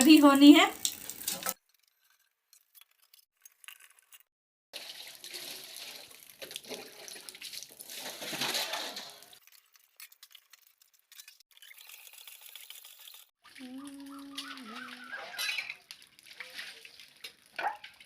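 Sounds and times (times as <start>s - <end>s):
water running and splashing: 0.0s - 1.6s, 4.7s - 18.0s.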